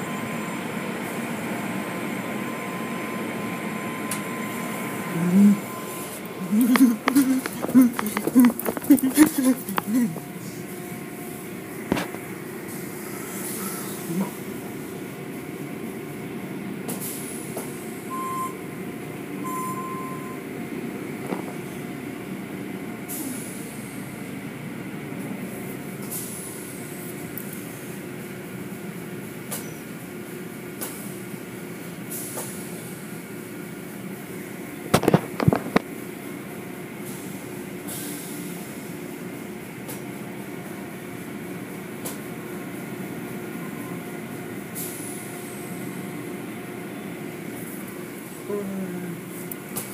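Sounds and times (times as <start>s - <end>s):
car wash machinery hum: 0.0s - 49.9s.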